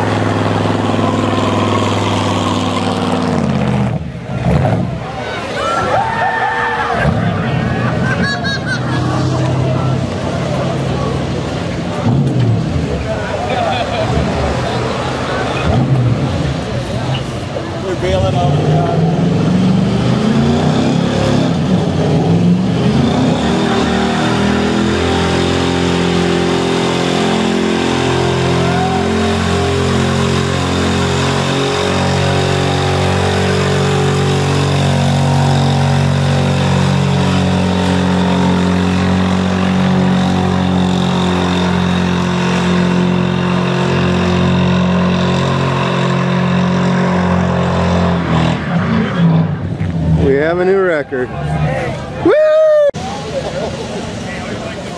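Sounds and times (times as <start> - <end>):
car engine at high revs: 0.0 - 5.5, 6.9 - 50.8.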